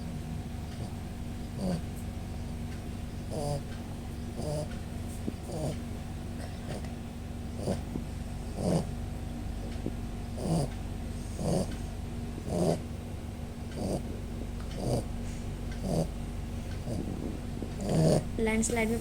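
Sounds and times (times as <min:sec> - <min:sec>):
dog snoring: 0:00.0 - 0:09.0, 0:09.6 - 0:13.0, 0:13.7 - 0:18.4.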